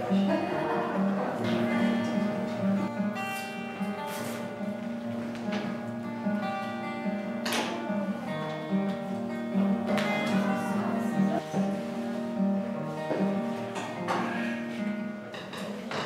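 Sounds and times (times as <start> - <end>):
plucked guitar: 0.0 - 16.0.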